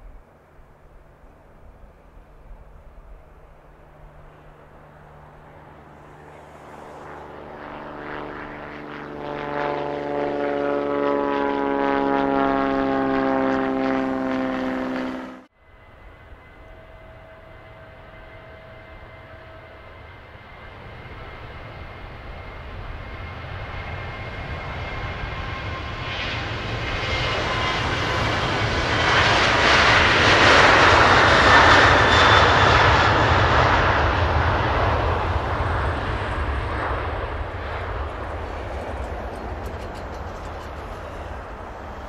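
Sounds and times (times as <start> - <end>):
airplane engine flying past: 0.0 - 42.0.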